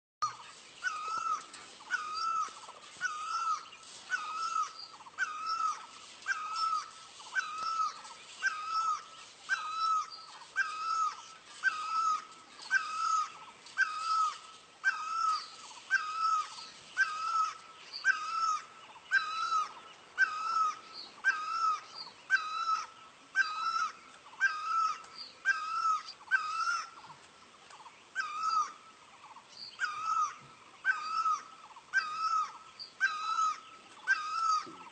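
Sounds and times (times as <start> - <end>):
bird calling: 0.2 - 34.9.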